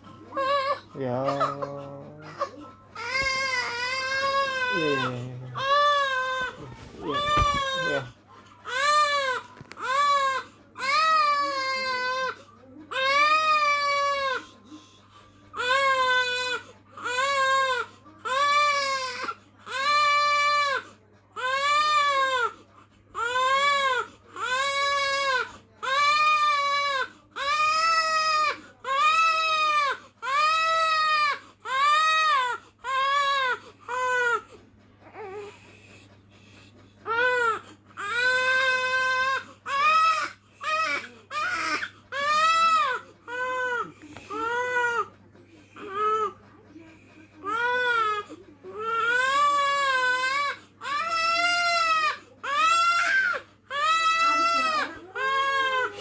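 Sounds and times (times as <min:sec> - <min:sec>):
infant crying: 0:00.3 - 0:08.1, 0:08.7 - 0:14.5, 0:15.6 - 0:20.8, 0:23.2 - 0:35.6, 0:37.0 - 0:45.1, 0:45.8 - 0:46.4, 0:47.4 - 0:56.0.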